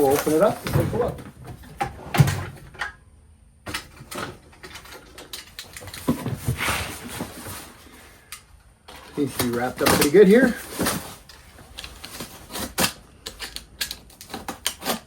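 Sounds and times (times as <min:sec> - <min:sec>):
cardboard and wrapping rustling: 0:00.0 - 0:02.7, 0:04.0 - 0:08.3, 0:08.9 - 0:15.0.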